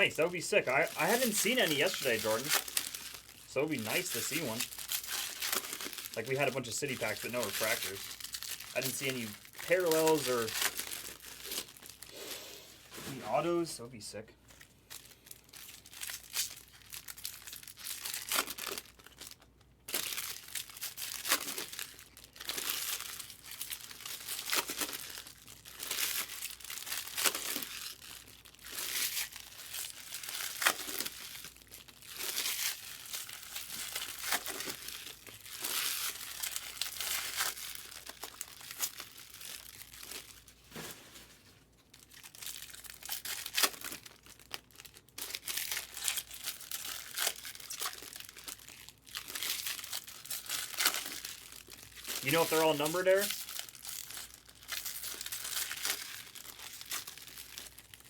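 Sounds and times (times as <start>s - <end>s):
foil wrappers crinkling and tearing: 0.0s - 12.4s, 14.5s - 58.0s.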